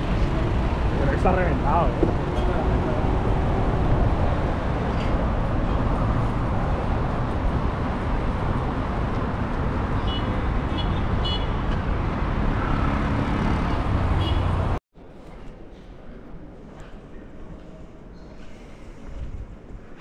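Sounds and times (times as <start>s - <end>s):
city road traffic roar: 0.0s - 20.0s.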